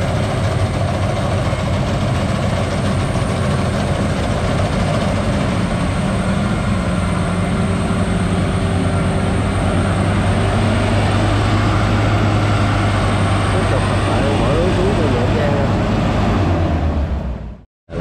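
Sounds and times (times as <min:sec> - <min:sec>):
combine harvester engine running: 0:00.0 - 0:18.0.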